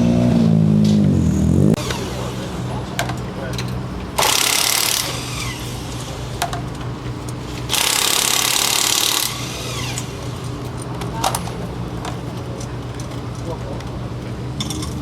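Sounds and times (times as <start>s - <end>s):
engine idling: 0.4s - 15.0s.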